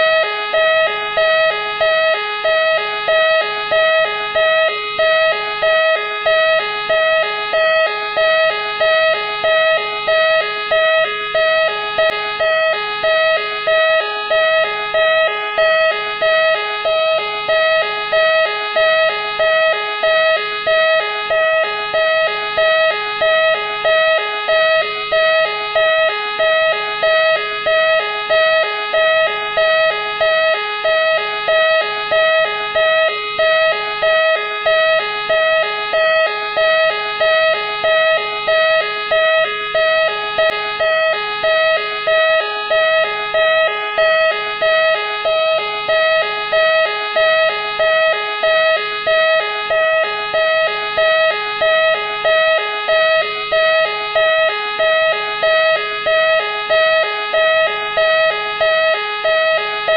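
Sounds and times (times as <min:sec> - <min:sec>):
two-tone police siren: 0:00.0 - 0:59.9.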